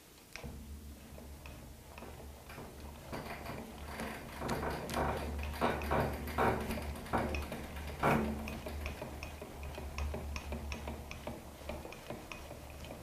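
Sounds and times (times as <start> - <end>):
lathe carriage metallic strokes: 0.6 - 13.0.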